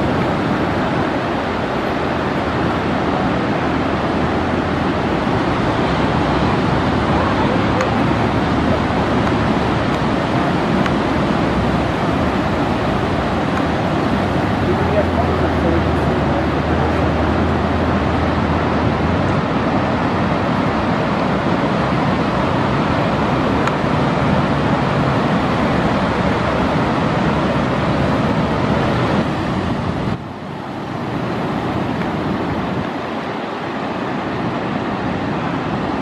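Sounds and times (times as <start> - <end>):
ocean surf breaking: 0.0 - 36.0
wind on microphone: 0.0 - 36.0.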